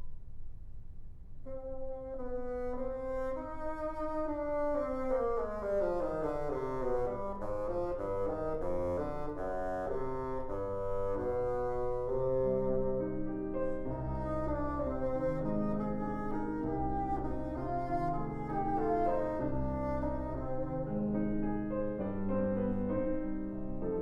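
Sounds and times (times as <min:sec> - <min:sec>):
bassoon notes: 0:01.4 - 0:22.8
piano notes: 0:01.4 - 0:24.0.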